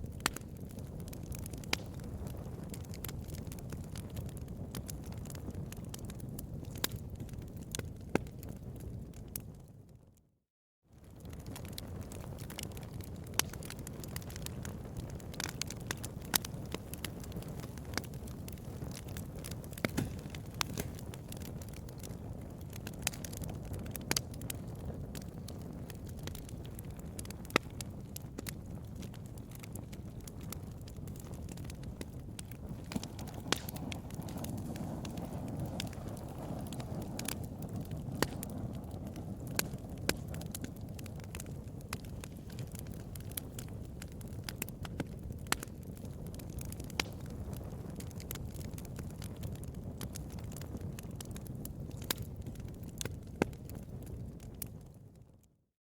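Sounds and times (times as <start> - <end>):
bonfire crackling: 0.0 - 10.0, 11.0 - 55.5.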